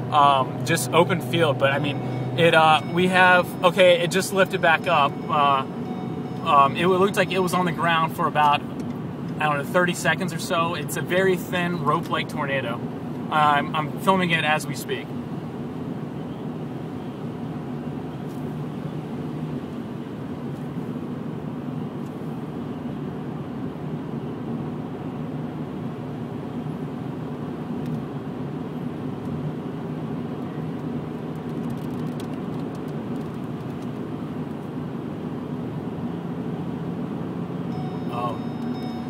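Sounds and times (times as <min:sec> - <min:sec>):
car engine drone: 0:00.0 - 0:39.0.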